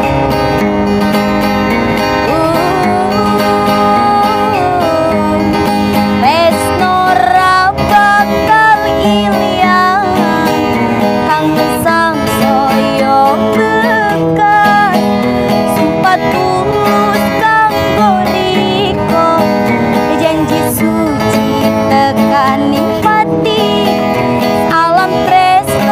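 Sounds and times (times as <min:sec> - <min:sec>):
acoustic guitar strumming: 0:00.0 - 0:25.9
person singing ornamented melody: 0:02.2 - 0:25.9.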